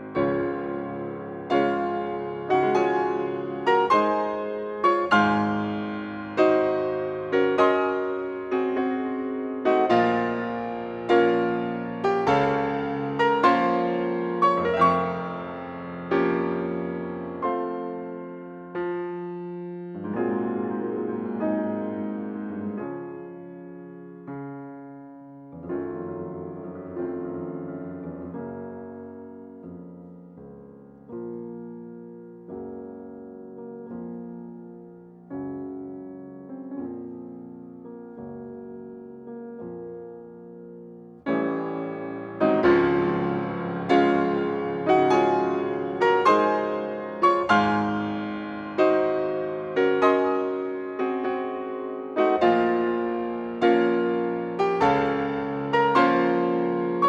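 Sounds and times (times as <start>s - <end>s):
gentle piano chords: 0.0s - 57.0s.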